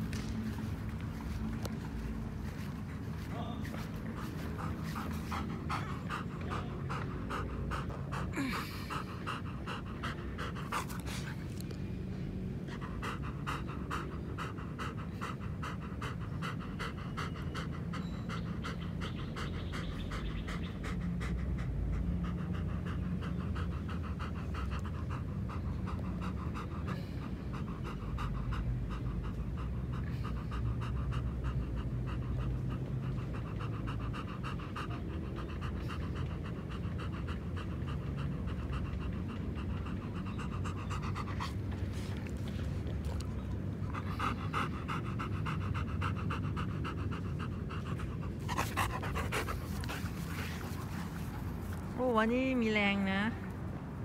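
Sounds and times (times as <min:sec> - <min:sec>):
dog panting: 0:00.0 - 0:54.0.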